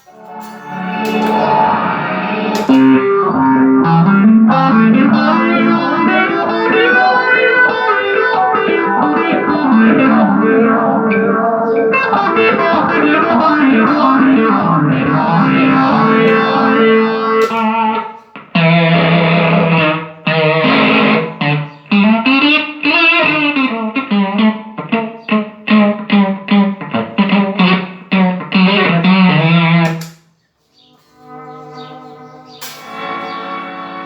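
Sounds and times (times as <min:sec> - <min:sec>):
electric guitar notes: 0:00.0 - 0:30.3, 0:30.9 - 0:34.0.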